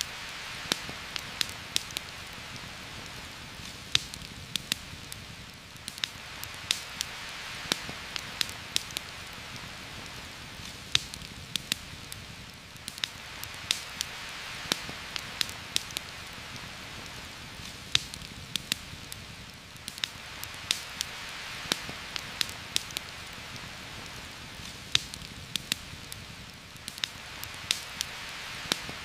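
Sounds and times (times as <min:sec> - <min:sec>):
heavy rain through forest canopy: 0:00.0 - 0:29.0.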